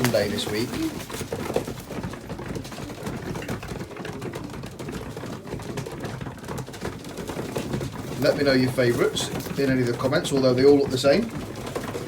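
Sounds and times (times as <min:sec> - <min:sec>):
pigeons pecking at grain: 0:00.0 - 0:12.0.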